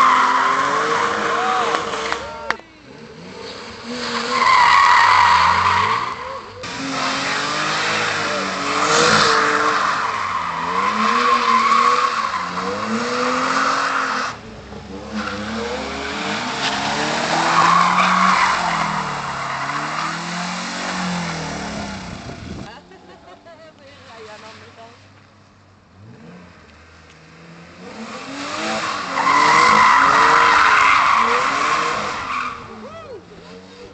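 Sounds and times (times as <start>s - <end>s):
car engine revving: 0.0s - 22.7s, 24.0s - 33.9s
tyres squealing on asphalt: 0.0s - 33.9s.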